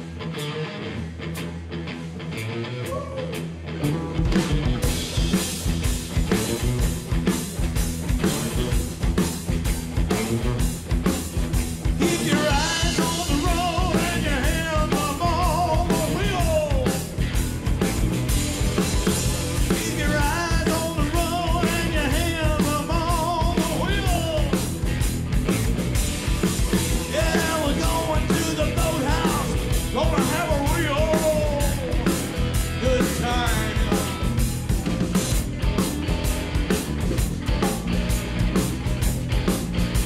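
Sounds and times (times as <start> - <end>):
bending lead guitar melody: 0.0 - 40.0
electric bass: 0.0 - 40.0
electric guitar: 0.0 - 40.0
drum kit beat: 3.8 - 40.0.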